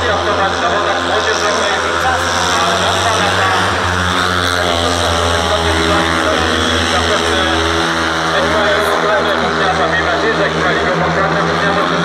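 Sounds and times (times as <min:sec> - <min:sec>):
motorcycle engines running loudly: 0:00.0 - 0:12.0.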